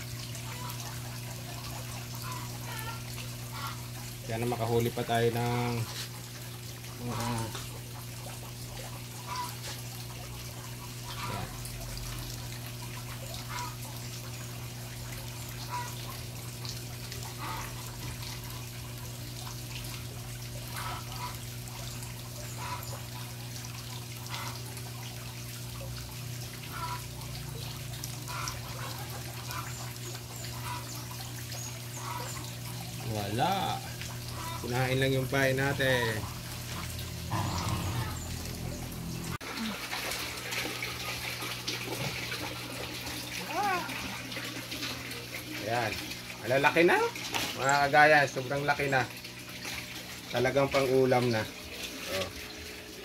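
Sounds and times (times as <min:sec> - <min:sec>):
water trickling and splashing: 0:00.0 - 0:53.0.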